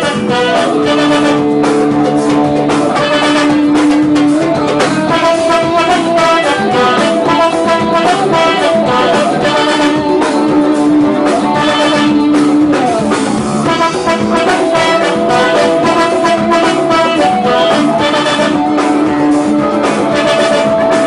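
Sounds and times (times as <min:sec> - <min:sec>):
band backing with drum beat: 0:00.0 - 0:21.0
saxophone melody: 0:00.0 - 0:21.0.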